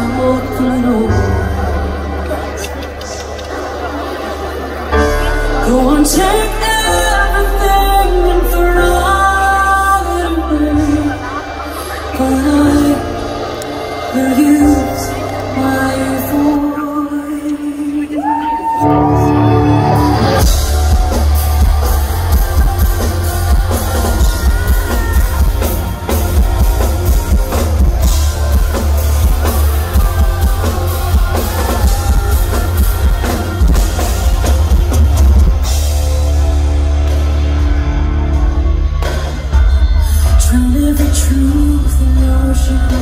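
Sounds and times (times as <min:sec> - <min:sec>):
woman singing: 0:00.0 - 0:02.7, 0:05.4 - 0:34.8, 0:39.6 - 0:43.0
live rock band: 0:00.0 - 0:43.0.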